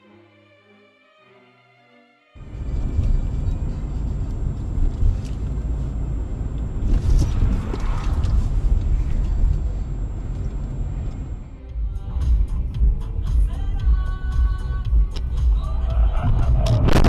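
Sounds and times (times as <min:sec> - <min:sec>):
car road and engine rumble: 0:02.4 - 0:17.0.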